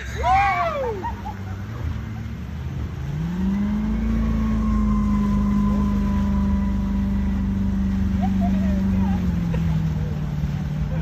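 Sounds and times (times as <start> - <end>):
truck engine revving: 0.0 - 11.0
water spray from spinning wheels: 0.0 - 11.0.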